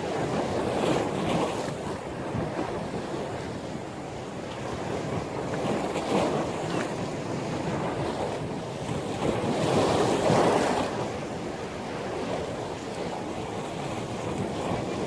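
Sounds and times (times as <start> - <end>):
rough sea waves breaking: 0.0 - 15.0
wind buffeting microphone: 0.0 - 15.0.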